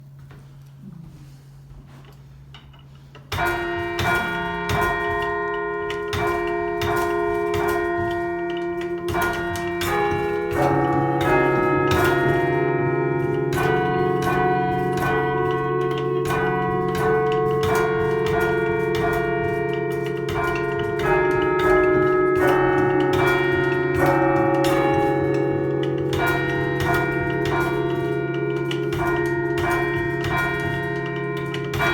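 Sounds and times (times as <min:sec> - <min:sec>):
church bells chiming: 0:03.3 - 0:31.9.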